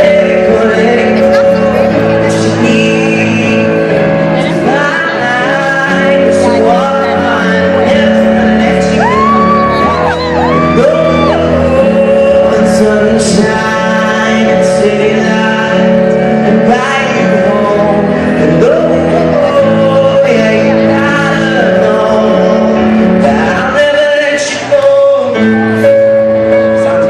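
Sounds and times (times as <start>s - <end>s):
instrumental accompaniment: 0.0s - 27.0s
man singing through pa: 0.0s - 27.0s.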